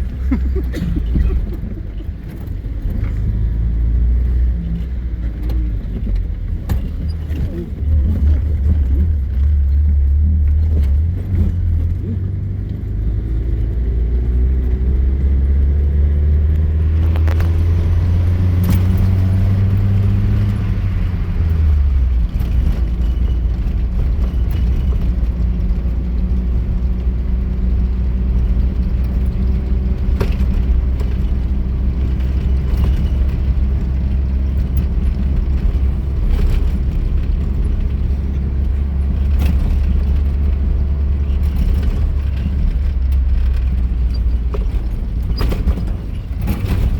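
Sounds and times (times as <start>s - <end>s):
off-road vehicle engine droning: 0.0s - 46.9s
knocks and rattles: 4.2s - 12.6s, 16.8s - 46.9s.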